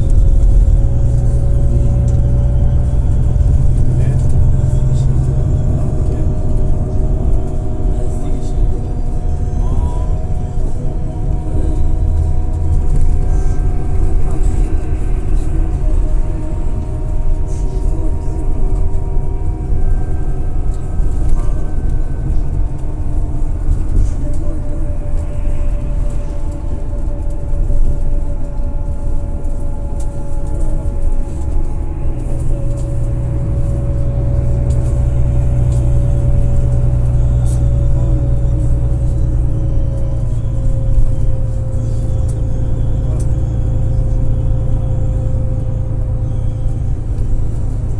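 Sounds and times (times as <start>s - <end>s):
engine and tyre rumble: 0.0s - 47.9s
faint shifting whine: 0.0s - 47.9s.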